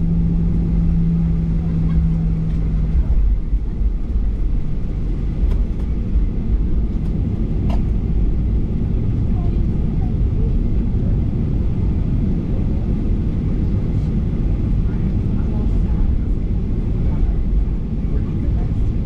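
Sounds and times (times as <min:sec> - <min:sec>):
airplane cabin rumble: 0:00.0 - 0:19.0
steady hum: 0:00.0 - 0:19.0.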